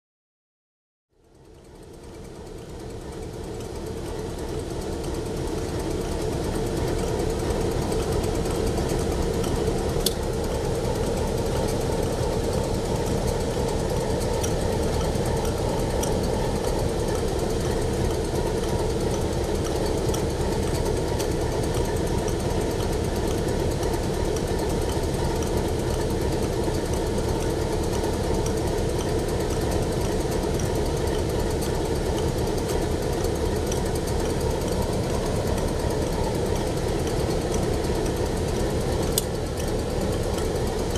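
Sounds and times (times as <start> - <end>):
diesel locomotive engine idling: 1.4 - 40.9.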